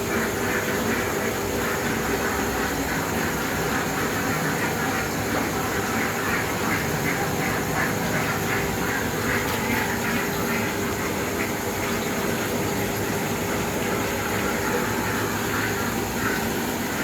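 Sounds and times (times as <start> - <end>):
faint constant hum: 0.0 - 17.0.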